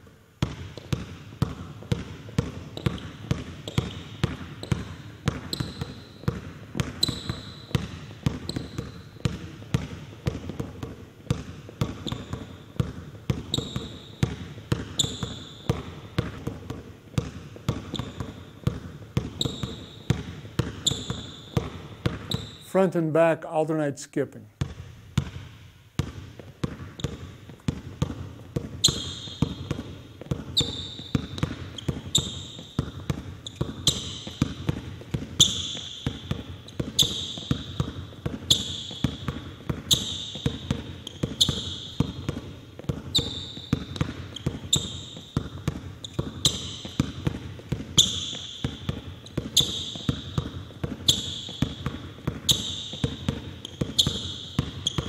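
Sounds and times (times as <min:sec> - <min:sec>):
basketball bouncing on wooden floor: 0:00.4 - 0:22.6, 0:24.6 - 0:55.0.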